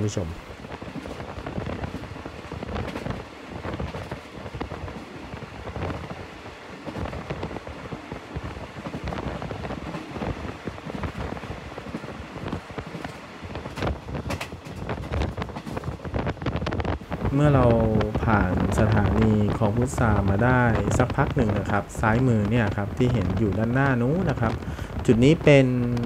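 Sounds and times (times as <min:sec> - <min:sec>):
train wheels rumbling on rails: 0:00.0 - 0:26.0
wind noise: 0:00.0 - 0:26.0.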